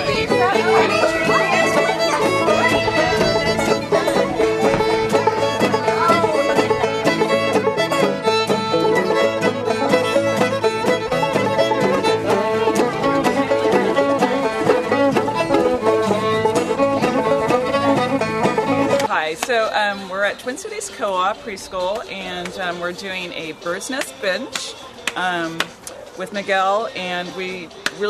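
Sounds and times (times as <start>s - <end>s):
upbeat bluegrass music: 0.0s - 28.0s.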